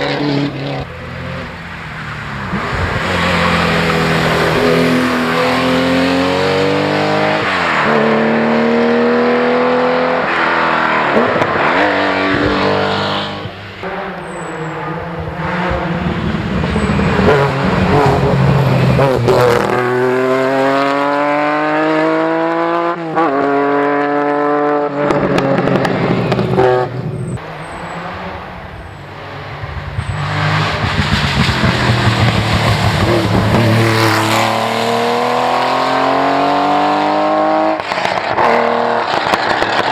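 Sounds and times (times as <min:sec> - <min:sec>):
rally car engines accelerating: 0:00.0 - 0:39.9.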